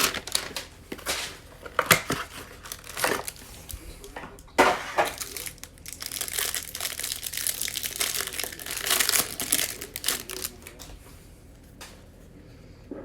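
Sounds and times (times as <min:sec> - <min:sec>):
plastic wrapper crinkling: 0:00.0 - 0:11.1.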